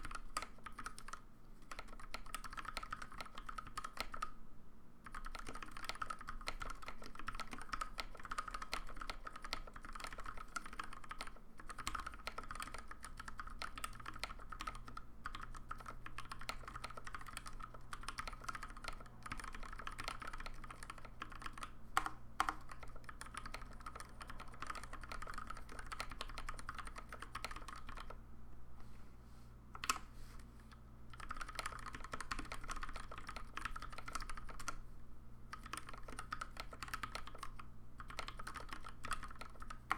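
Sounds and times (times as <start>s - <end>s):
mechanical keyboard typing: 0.0s - 4.3s, 5.0s - 28.2s, 31.1s - 34.8s, 35.5s - 39.9s.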